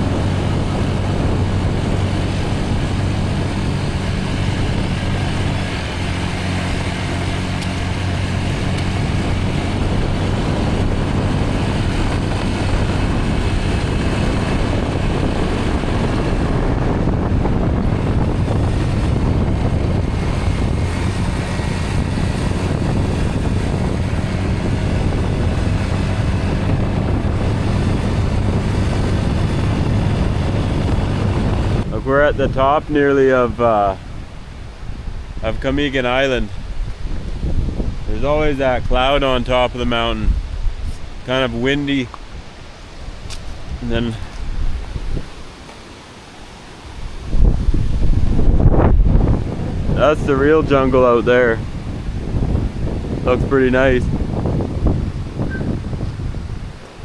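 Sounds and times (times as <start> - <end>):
road and wind noise: 0.0 - 57.0
vehicle engine humming: 0.0 - 57.0.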